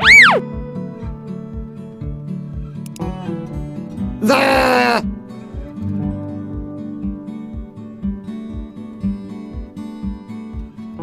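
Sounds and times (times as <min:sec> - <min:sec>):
strummed acoustic guitar: 0:00.4 - 0:11.0.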